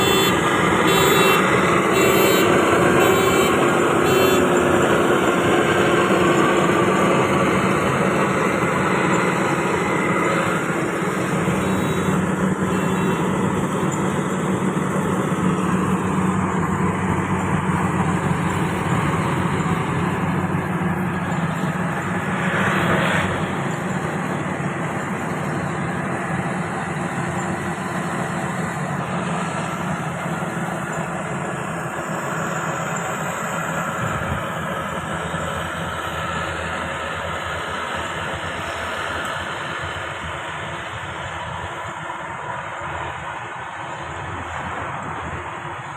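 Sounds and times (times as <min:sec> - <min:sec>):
combine harvester engine running: 0:00.0 - 0:45.9.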